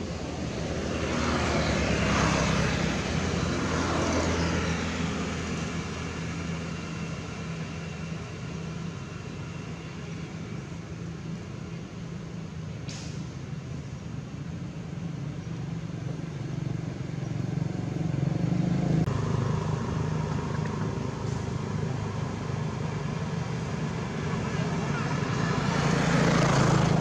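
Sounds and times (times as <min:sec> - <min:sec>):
passing vehicle engine: 0:00.0 - 0:10.7, 0:15.8 - 0:27.0.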